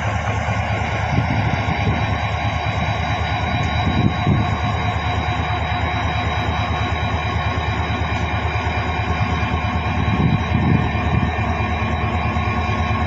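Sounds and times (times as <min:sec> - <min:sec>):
constant engine whine: 0:00.0 - 0:13.0
diesel locomotive idling: 0:00.0 - 0:13.0.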